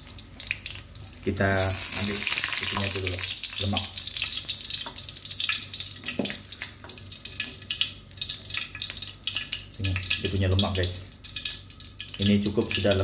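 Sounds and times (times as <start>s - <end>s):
fat sizzling in oil: 0.0s - 13.0s.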